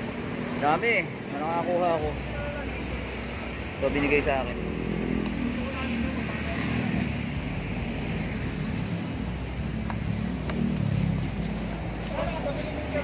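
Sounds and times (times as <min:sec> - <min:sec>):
street traffic engine rumble: 0:00.0 - 0:13.0.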